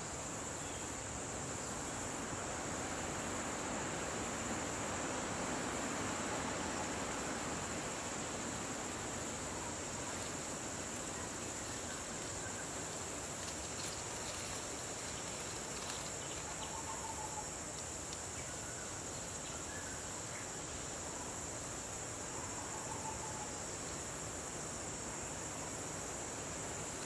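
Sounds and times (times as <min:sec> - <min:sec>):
constant hiss: 0:00.0 - 0:27.0
insect chorus drone: 0:00.0 - 0:27.0.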